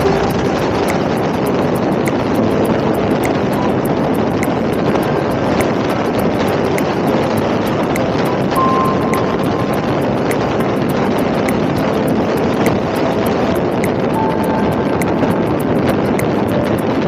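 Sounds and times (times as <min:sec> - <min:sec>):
motorcycle road and engine noise: 0:00.0 - 0:17.0
wind rushing over microphone: 0:00.0 - 0:17.0.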